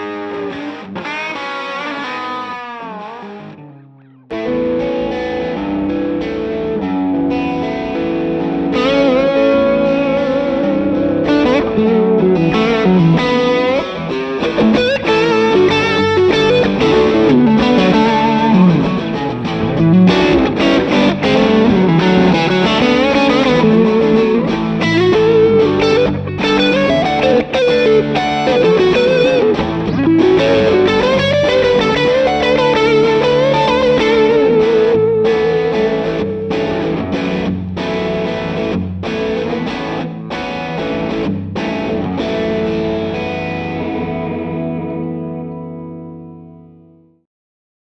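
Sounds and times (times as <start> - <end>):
overdriven electric guitar: 0.0 - 47.2.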